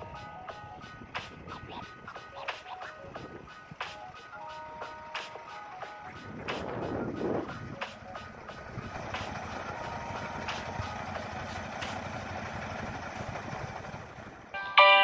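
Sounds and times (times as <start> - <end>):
diesel truck engine idling: 0.0 - 14.6.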